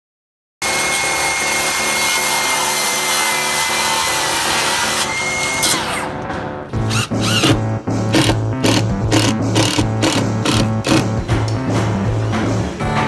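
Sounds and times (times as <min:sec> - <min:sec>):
power saw cutting wood: 0:00.6 - 0:11.2.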